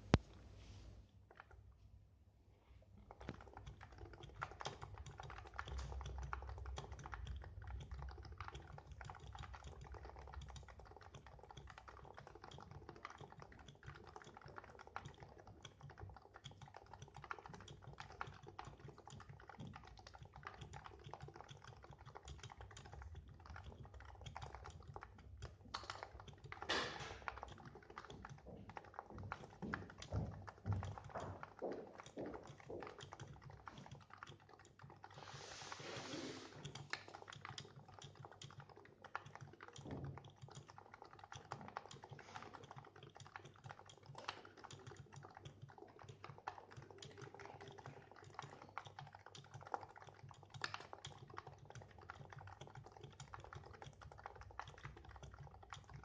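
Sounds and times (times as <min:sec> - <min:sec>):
keyboard typing: 0:03.0 - 0:56.0.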